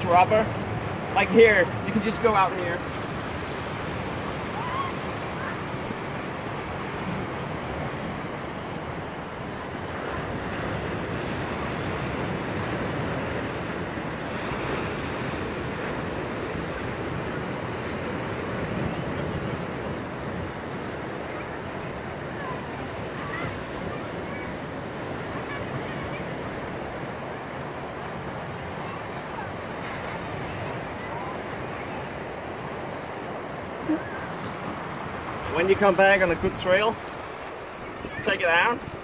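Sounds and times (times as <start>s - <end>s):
sea surf breaking on rocky shore: 0.0s - 39.0s.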